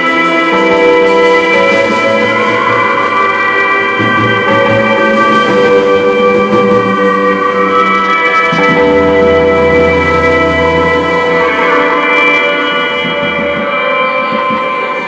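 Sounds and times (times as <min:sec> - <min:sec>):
drum kit with cymbals: 0:00.0 - 0:15.0
rock band playing droning chords: 0:00.0 - 0:15.0.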